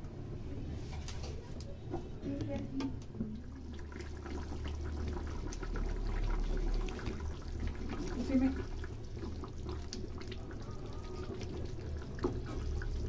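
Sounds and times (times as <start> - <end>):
curry bubbling and popping: 2.0 - 13.0.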